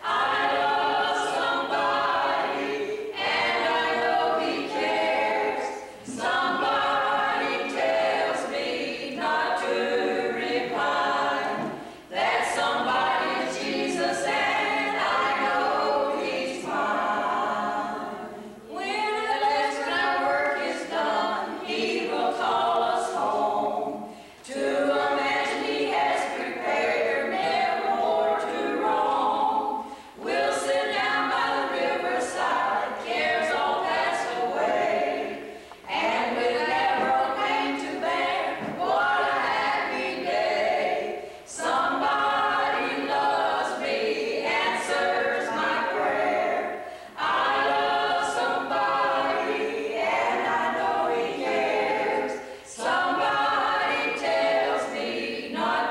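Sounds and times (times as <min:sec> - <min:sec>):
group singing a hymn: 0:00.0 - 0:55.9.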